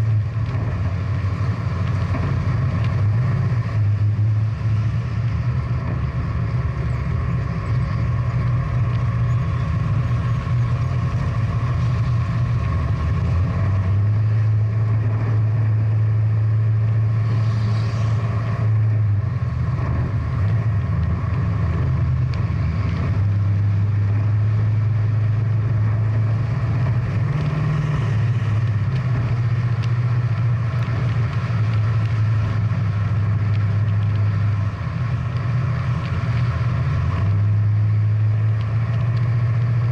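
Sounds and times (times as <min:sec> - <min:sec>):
muscle car engine running: 0:00.0 - 0:39.9.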